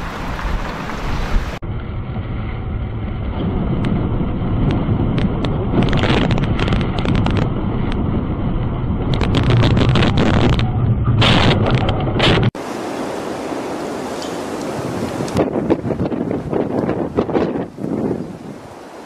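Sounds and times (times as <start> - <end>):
wind buffeting microphone: 0.0 - 12.6, 14.1 - 19.0.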